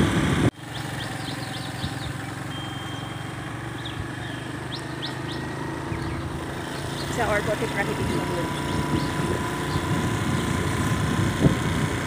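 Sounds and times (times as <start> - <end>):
motorbike engine running: 0.0 - 12.0
birds chirping: 0.6 - 11.7.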